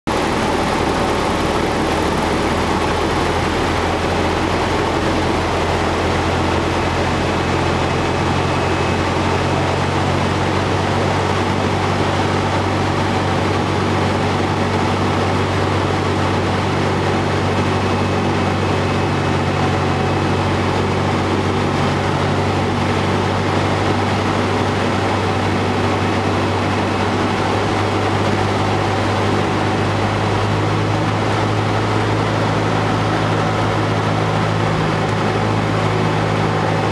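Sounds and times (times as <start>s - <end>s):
propeller plane engine droning: 0.1s - 36.9s.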